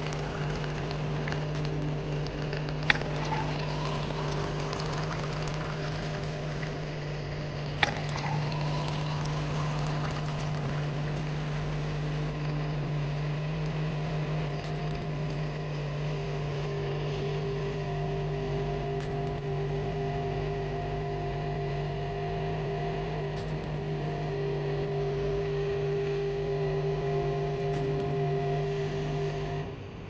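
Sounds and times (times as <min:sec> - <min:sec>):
coffee machine pump hum: 0:00.0 - 0:30.0.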